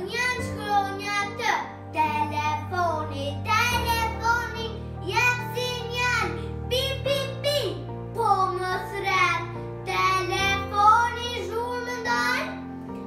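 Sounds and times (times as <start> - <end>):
girl singing: 0.0 - 12.6.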